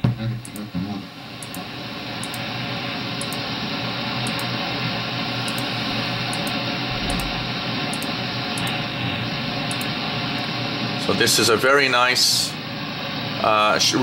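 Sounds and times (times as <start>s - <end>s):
radio band noise hiss: 0.0s - 14.0s.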